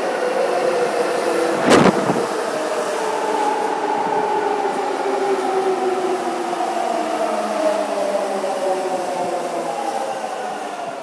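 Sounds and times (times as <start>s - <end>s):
subway train passing: 0.0s - 11.0s.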